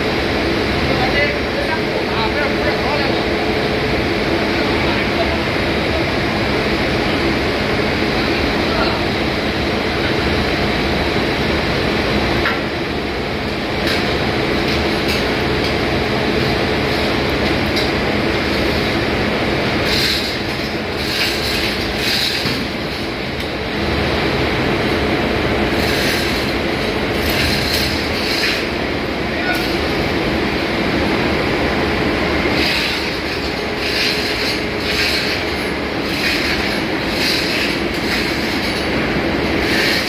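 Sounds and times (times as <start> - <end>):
engine-room machinery droning: 0.0 - 40.0.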